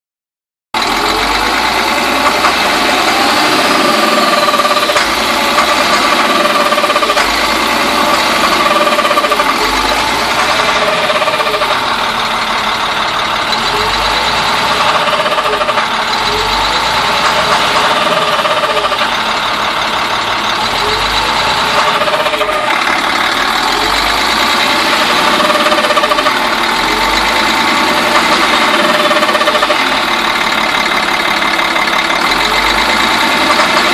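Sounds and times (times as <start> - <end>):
diesel engine running: 0.8 - 33.9.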